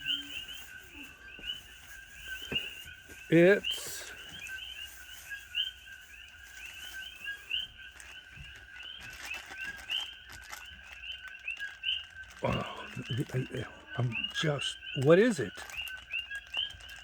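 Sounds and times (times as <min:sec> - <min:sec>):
constant high tone: 0:00.0 - 0:17.0
high chirping animal calls: 0:00.0 - 0:17.0.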